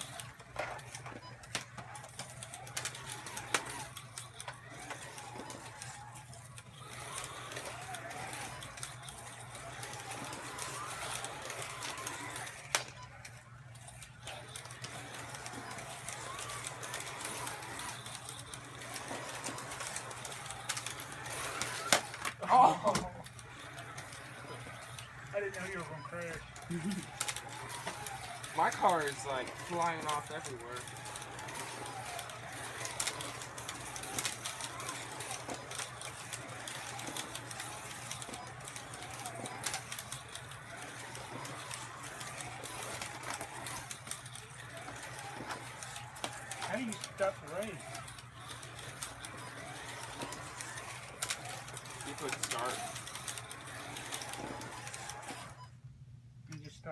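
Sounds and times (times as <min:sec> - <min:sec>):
slot car electric motors whining: 0:00.0 - 0:56.9.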